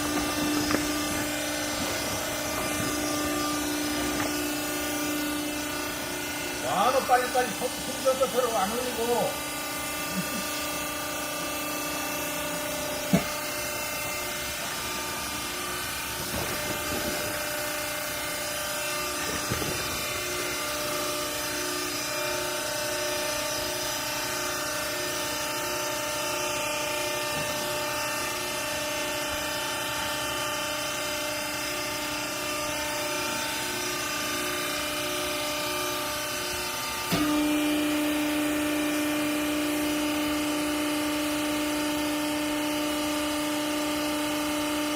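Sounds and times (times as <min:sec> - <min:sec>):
hydraulic press motor hum: 0:00.0 - 0:44.9.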